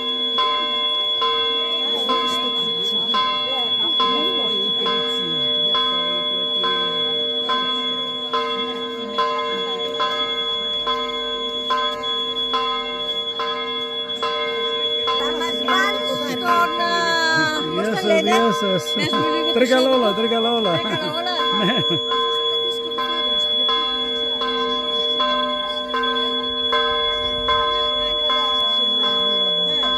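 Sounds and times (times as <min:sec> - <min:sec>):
church bell tolling: 0:00.0 - 0:29.9.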